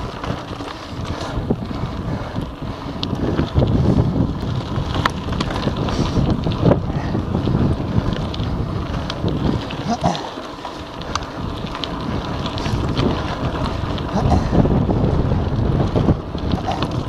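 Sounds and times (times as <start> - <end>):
bike tyres rolling on gravel: 0.0 - 17.0
sharp clicks and rattles: 0.0 - 17.0
wind buffeting microphone: 0.0 - 17.0.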